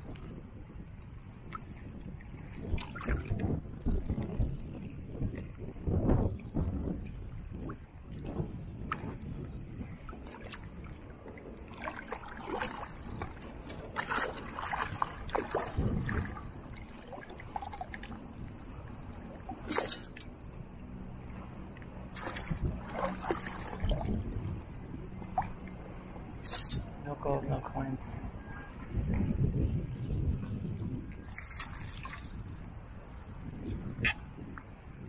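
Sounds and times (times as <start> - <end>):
water sloshing and splashing: 0.0 - 35.0.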